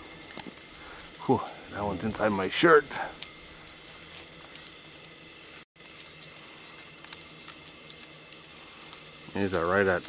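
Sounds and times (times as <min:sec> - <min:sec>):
swarm of beetles hissing: 0:00.0 - 0:10.0.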